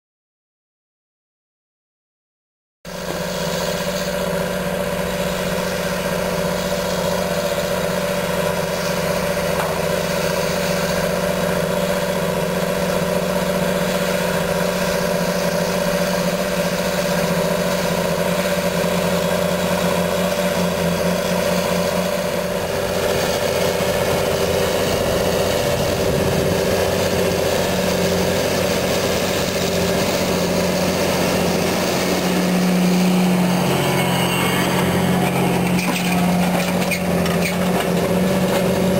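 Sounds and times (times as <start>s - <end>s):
tractor diesel engine under load: 2.9s - 38.9s.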